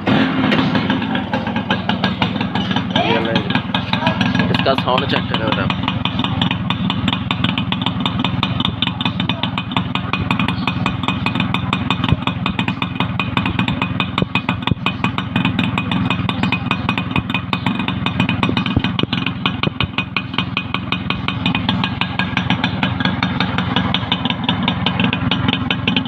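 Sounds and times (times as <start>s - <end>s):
two-stroke motorcycle engine running: 0.0s - 26.0s.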